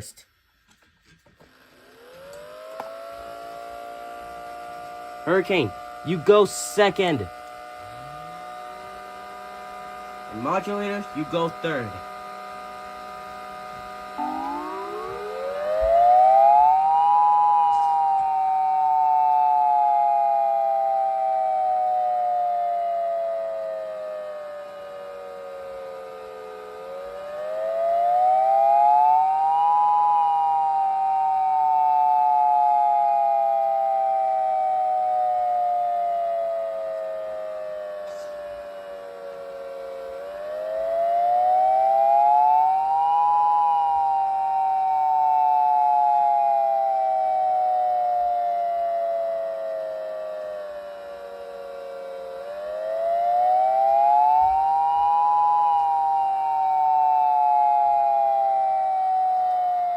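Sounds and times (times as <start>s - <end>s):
sirens wailing: 2.0s - 59.9s
faint steady tone: 3.4s - 59.9s.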